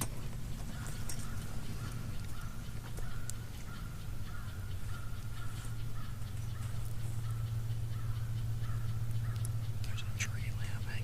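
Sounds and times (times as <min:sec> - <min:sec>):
distant birds calling: 0:00.0 - 0:11.0
steady low hum: 0:00.0 - 0:11.0.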